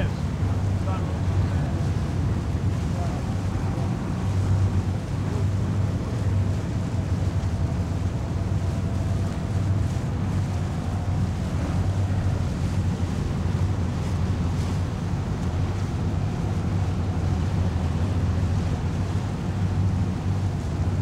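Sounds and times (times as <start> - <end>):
boat engine droning: 0.0 - 21.0
wind buffeting microphone: 0.0 - 21.0.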